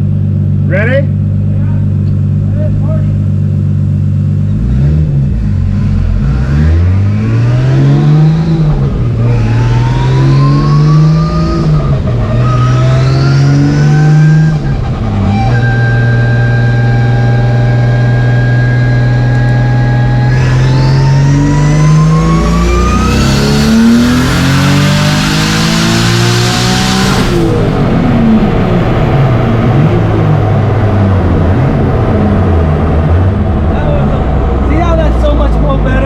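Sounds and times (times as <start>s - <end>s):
car engine revving: 0.0s - 36.0s
high whine: 0.0s - 36.0s.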